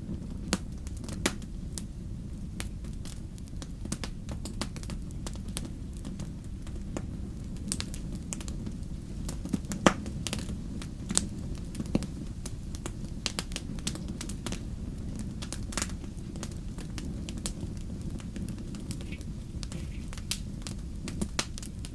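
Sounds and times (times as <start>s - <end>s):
fire crackling and popping: 0.0s - 21.9s
low fire rumble: 0.0s - 21.9s.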